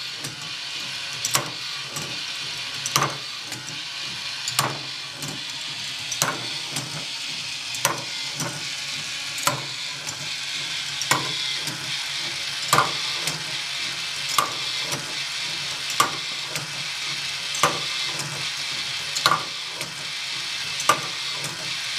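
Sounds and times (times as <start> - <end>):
motor whir and rattle: 0.0 - 21.9.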